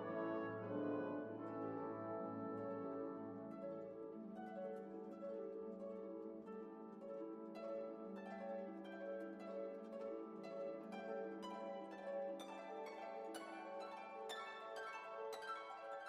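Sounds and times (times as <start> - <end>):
gentle plucked harp-like music: 0.0 - 16.0.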